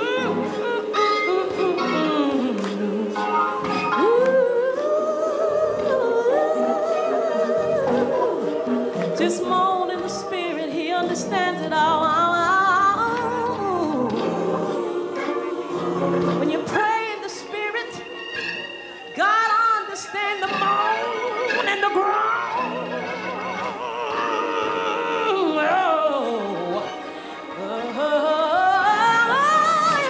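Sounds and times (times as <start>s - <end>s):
woman singing gospel: 0.0s - 18.1s, 19.2s - 22.8s, 23.7s - 27.0s, 27.6s - 30.0s.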